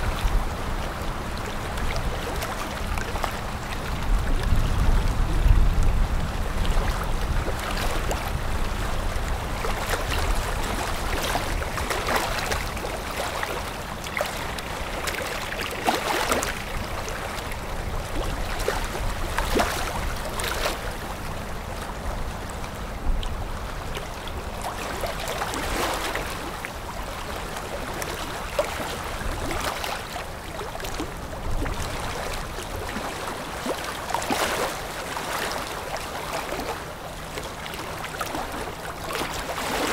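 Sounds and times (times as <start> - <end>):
boat engine hum: 0.0 - 39.9
water rushing and splashing: 0.0 - 39.9.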